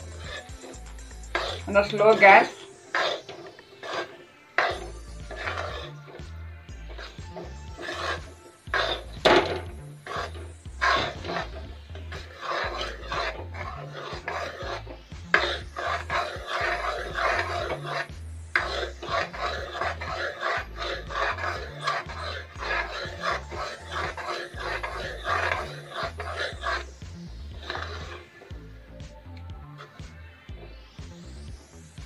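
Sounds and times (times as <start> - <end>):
metal spatula scraping a pan: 0.0 - 28.5
background music with bass line: 0.0 - 32.0.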